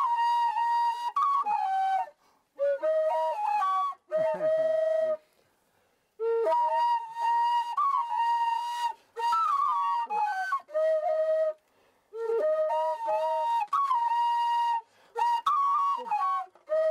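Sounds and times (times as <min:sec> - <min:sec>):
flute melody: 0:00.0 - 0:05.4, 0:06.2 - 0:16.9.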